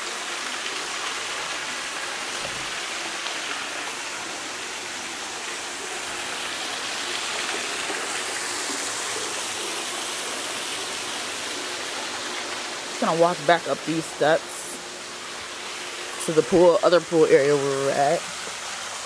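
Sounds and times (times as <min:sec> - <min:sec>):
water rushing down wall waterfall: 0:00.0 - 0:19.0.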